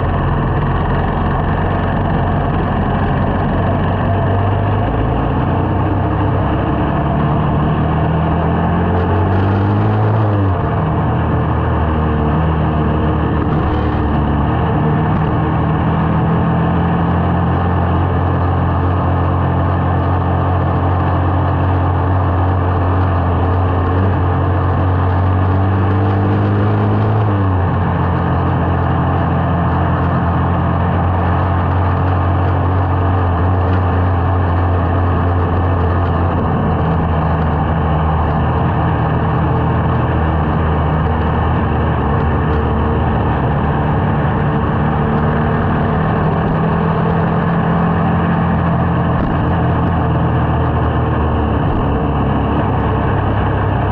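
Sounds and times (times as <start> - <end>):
rushing wind noise: 0.0 - 53.9
small motorcycle engine running: 0.0 - 53.9.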